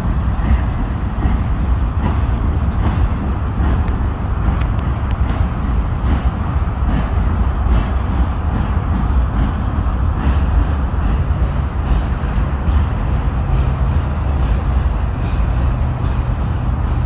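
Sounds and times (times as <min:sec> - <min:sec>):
freight train rumbling over bridge: 0:00.0 - 0:17.0
wheels clicking on rails: 0:00.0 - 0:17.0.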